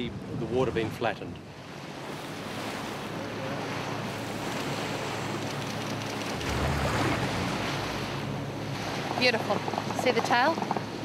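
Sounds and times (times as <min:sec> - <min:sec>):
wind and water rushing: 0:00.0 - 0:11.0
boat engine drone: 0:01.4 - 0:11.0.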